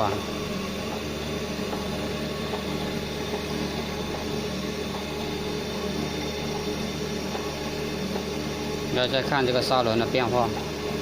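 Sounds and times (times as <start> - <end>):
grinding machine motor hum: 0.0 - 11.0.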